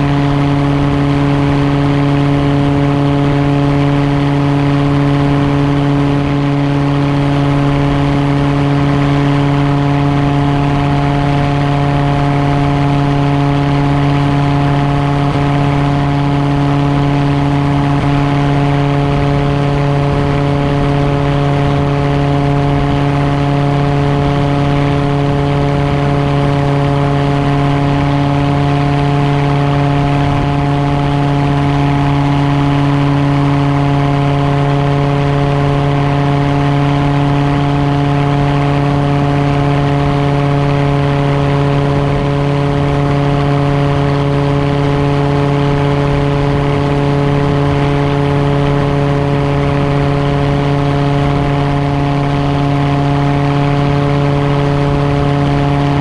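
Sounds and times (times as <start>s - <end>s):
engine and propeller drone: 0.0s - 56.0s.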